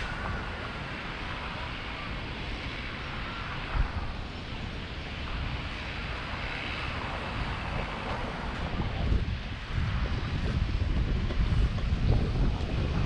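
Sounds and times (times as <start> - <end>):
steady outdoor rush: 0.0 - 13.0
wind buffeting microphone: 0.0 - 13.0.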